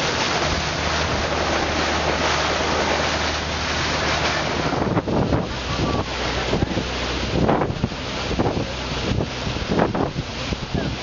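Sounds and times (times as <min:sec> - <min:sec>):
low engine hum: 0:00.0 - 0:11.0
river water rushing: 0:00.0 - 0:11.0
wind buffeting microphone: 0:00.0 - 0:11.0.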